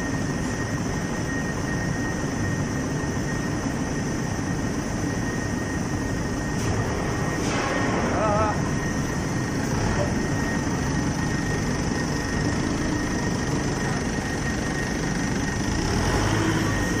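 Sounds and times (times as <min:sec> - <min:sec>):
industrial furnace roar: 0:00.0 - 0:17.0
thin steady high tone: 0:00.0 - 0:17.0.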